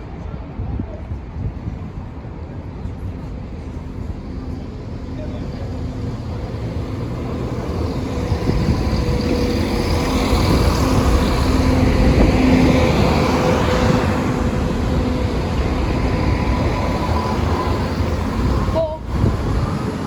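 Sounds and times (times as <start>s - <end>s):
train rumbling over crossing: 0.0s - 20.0s.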